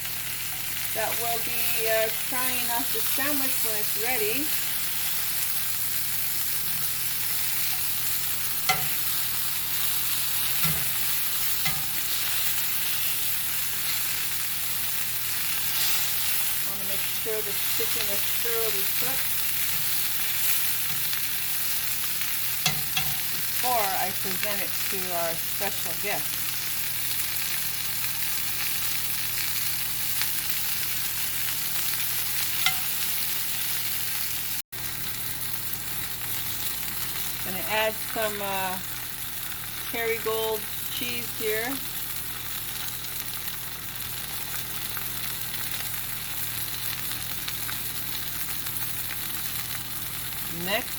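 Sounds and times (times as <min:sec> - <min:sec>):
chicken sizzling in a pan: 0:00.0 - 0:50.9.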